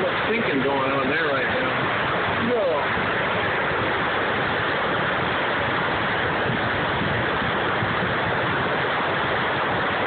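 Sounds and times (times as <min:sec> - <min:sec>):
river whitewater roaring: 0:00.0 - 0:10.0.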